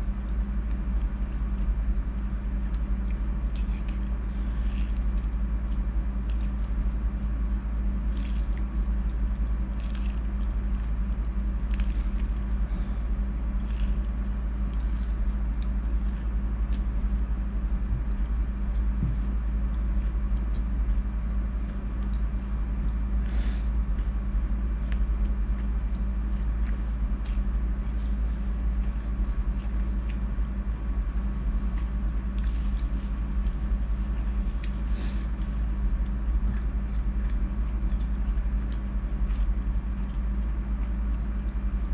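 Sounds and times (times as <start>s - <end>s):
steady low hum: 0.0s - 41.9s
chewing food: 0.1s - 23.0s, 23.9s - 41.9s.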